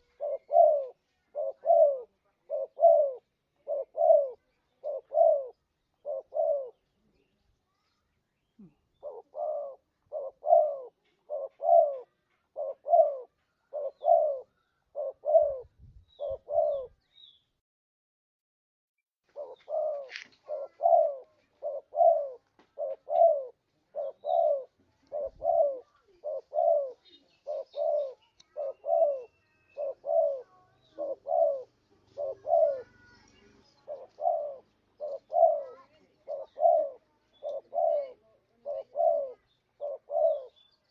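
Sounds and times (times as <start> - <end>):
dove cooing: 0.0 - 7.2, 8.6 - 17.0, 19.3 - 40.8.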